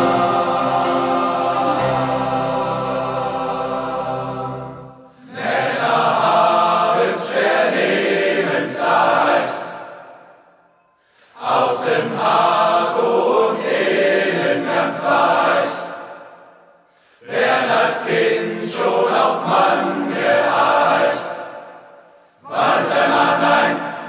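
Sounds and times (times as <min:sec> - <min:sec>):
male choir singing: 0:00.0 - 0:10.2, 0:11.4 - 0:16.3, 0:17.2 - 0:21.8, 0:22.4 - 0:24.0.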